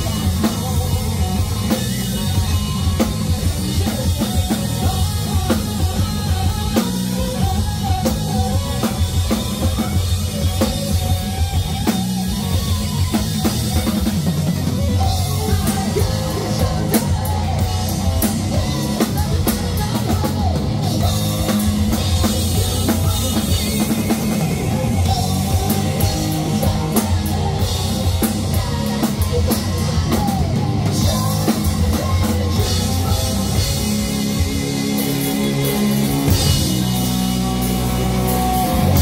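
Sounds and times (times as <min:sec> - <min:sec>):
man singing: 0:00.0 - 0:11.1, 0:14.8 - 0:39.0
drum kit: 0:00.0 - 0:39.0
electric guitar: 0:00.0 - 0:39.0.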